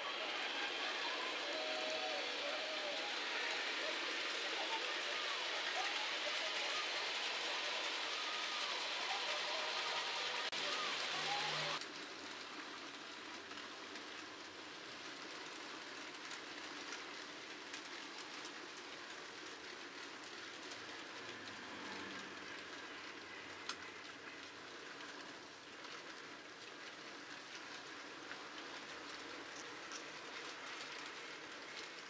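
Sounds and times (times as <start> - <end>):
model train wheels hissing on rail: 0.0 - 32.0.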